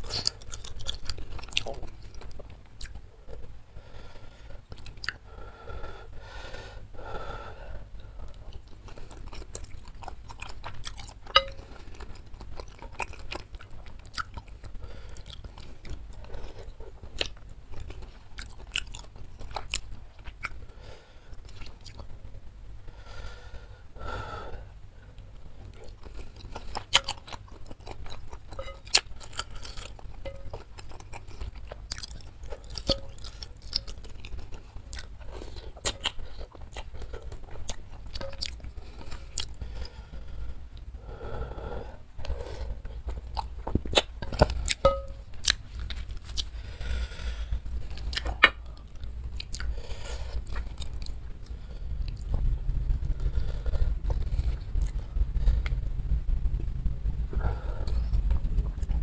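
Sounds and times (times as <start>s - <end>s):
person chewing: 0.0s - 5.3s, 8.1s - 22.2s, 25.6s - 41.5s, 42.2s - 55.8s, 57.4s - 59.0s.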